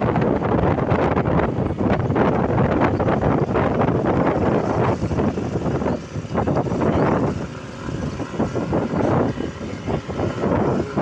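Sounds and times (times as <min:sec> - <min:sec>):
motorcycle engine running: 0:00.0 - 0:11.0
wind buffeting on microphone: 0:00.0 - 0:11.0.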